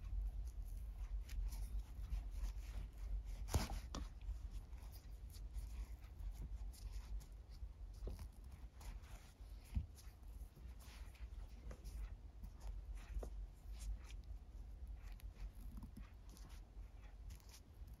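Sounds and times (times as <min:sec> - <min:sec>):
cord rustling: 0:00.0 - 0:18.0
low steady hum: 0:00.0 - 0:18.0.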